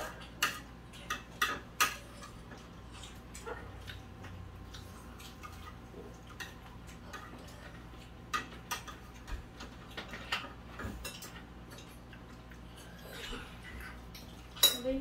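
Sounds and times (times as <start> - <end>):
utensils clinking on plates: 0.0 - 15.0.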